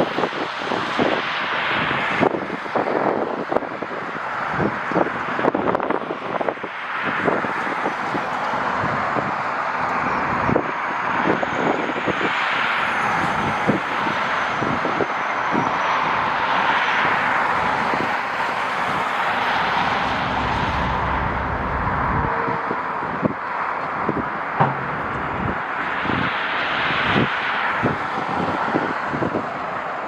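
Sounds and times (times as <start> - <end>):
jet engine noise with whine: 0.0 - 30.0
wind buffeting microphone: 0.0 - 30.0.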